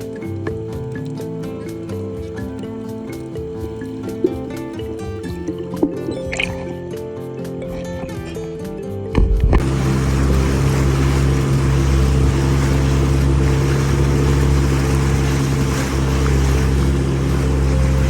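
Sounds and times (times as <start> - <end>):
wind and water hiss: 0.0 - 8.3, 9.2 - 18.0
boat engine droning: 0.0 - 18.0.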